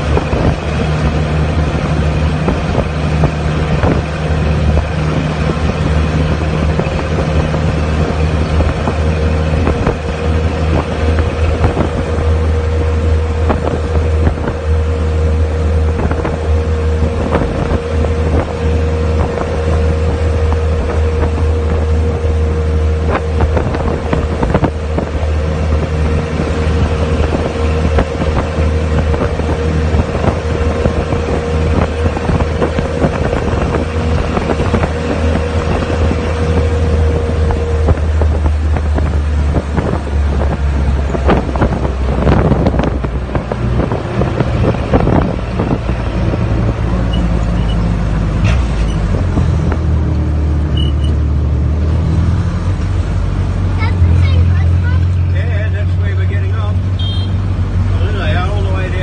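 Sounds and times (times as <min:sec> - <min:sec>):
car engine droning: 0:00.0 - 0:59.0
wind buffeting microphone: 0:00.0 - 0:59.0.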